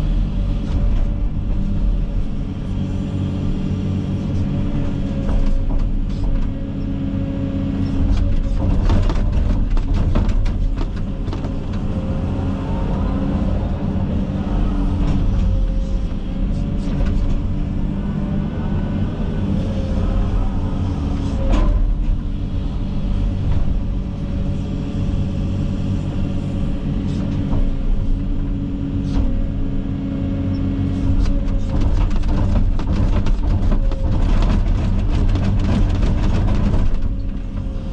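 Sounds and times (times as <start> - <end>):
excavator diesel engine: 0.0 - 37.9.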